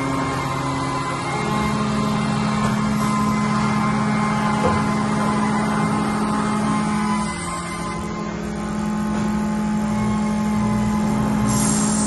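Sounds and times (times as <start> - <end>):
machining center humming: 0.0 - 12.0.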